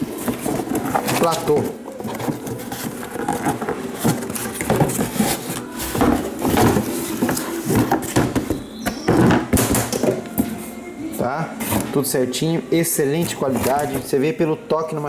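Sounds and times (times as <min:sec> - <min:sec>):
packaging rustling: 0:00.0 - 0:15.0.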